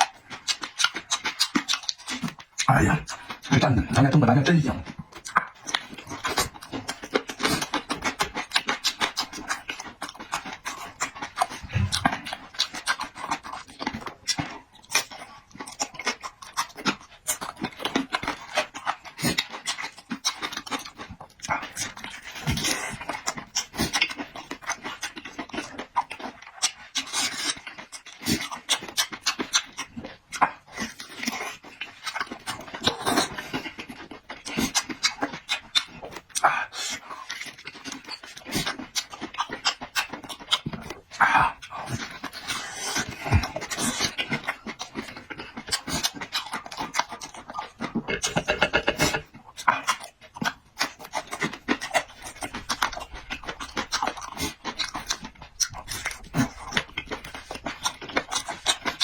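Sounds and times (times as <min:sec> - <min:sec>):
lip smacks and slurps: 0:00.0 - 0:59.0
person chewing wetly: 0:00.0 - 0:59.0.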